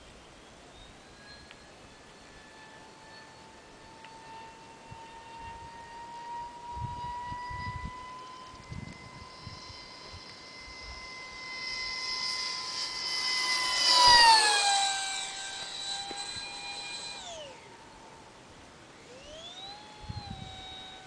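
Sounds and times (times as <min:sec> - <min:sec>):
model jet fan whining past: 0:00.0 - 0:21.0.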